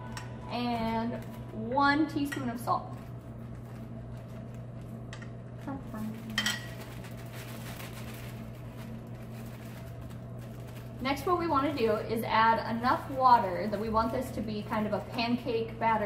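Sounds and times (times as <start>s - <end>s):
plastic bags rustling: 0.0s - 16.0s
steady low hum: 0.0s - 16.0s.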